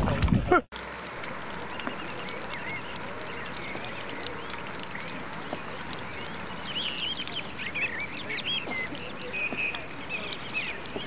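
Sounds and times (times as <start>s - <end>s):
birds chirping: 0.0s - 11.0s
small clicks: 0.3s - 11.0s.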